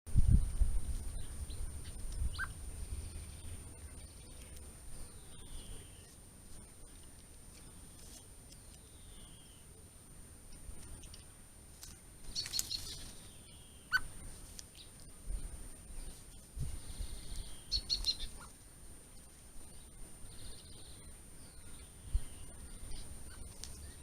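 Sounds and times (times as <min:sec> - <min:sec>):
small birds chirping: 0:00.3 - 0:24.0.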